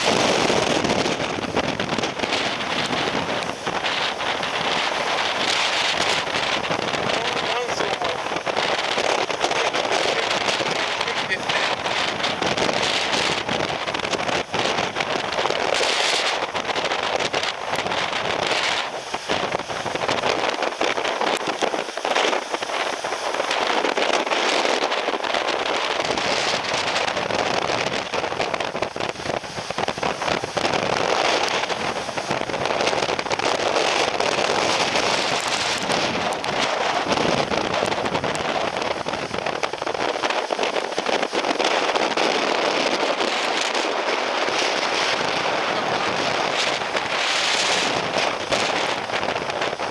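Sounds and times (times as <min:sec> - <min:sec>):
driving rain: 0:00.0 - 0:49.9
gusting typhoon wind: 0:00.0 - 0:49.9
wind and rain crackling on microphone: 0:00.0 - 0:49.9.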